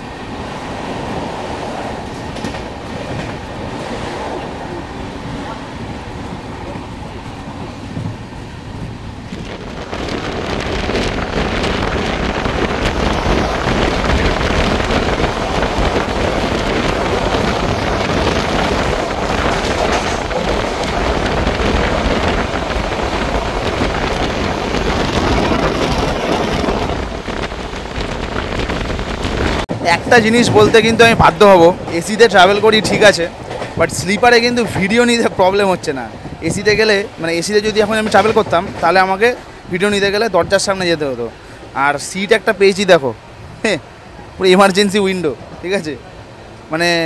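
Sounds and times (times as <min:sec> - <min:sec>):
wind rushing over microphone: 0:00.0 - 0:41.8
train running on rails: 0:00.0 - 0:47.0.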